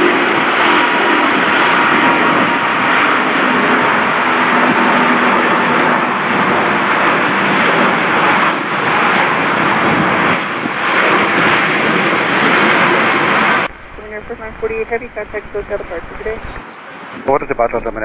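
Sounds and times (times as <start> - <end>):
jet engines at takeoff thrust: 0.0 - 18.0.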